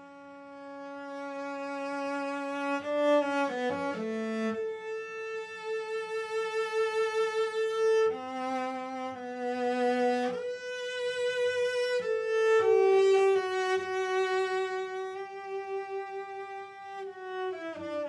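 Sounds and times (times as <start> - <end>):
cello playing slow melody: 0.0 - 18.0.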